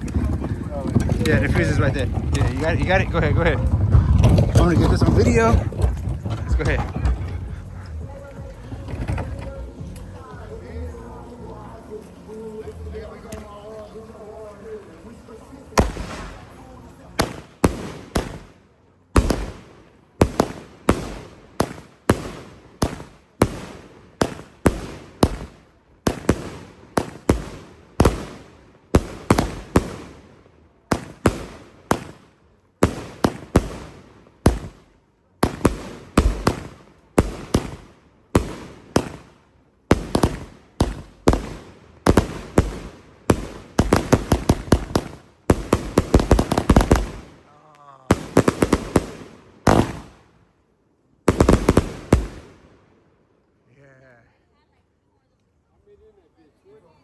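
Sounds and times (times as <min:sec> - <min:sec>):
firework cake shots: 0:00.0 - 0:50.4, 0:51.3 - 0:52.7.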